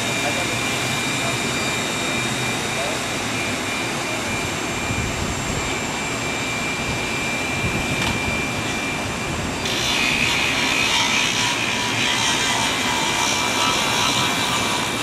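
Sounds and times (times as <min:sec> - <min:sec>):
boat hoist machine drone: 0:00.0 - 0:15.0
high whine: 0:00.0 - 0:15.0.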